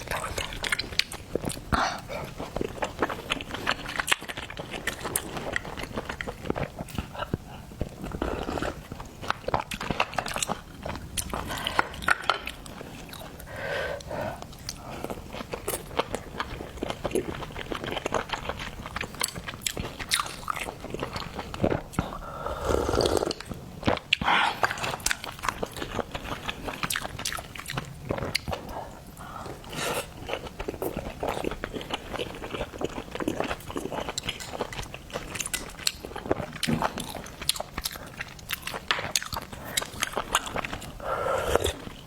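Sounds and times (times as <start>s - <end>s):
person chewing wetly: 0.0s - 42.0s.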